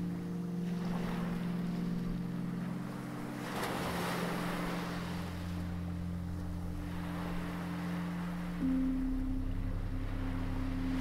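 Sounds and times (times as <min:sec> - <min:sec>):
sea waves washing on shore: 0:00.0 - 0:11.0
soft background music: 0:00.0 - 0:11.0.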